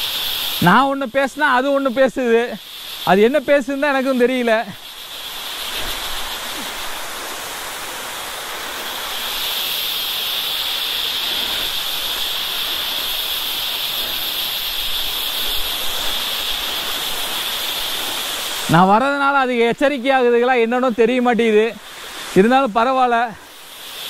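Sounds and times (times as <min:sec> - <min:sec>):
waterfall rushing over rock: 0:00.0 - 0:24.0.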